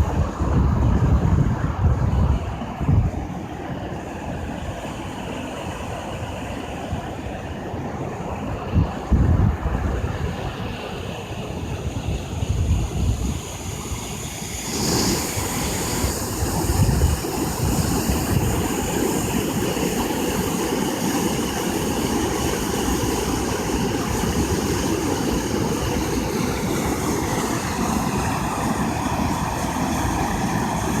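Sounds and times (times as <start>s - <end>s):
wind buffeting microphone: 0.0s - 4.8s, 6.8s - 31.0s.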